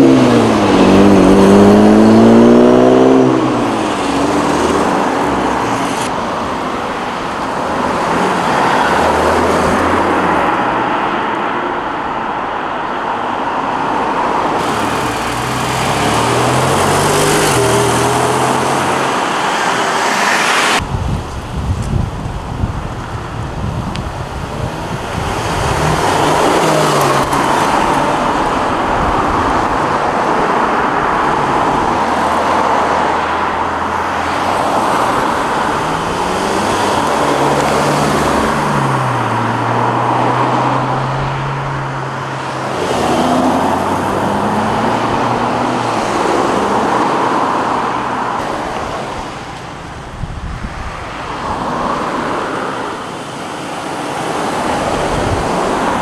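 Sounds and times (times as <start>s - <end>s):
car engines revving: 0.0s - 56.0s
passing traffic rush: 0.0s - 56.0s.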